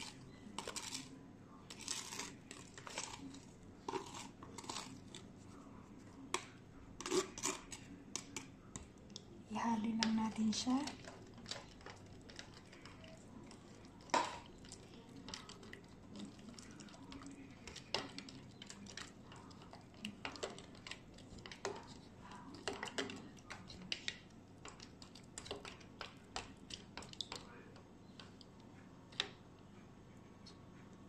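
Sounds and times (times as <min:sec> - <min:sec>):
faint liquid stirring: 0:00.0 - 0:31.0.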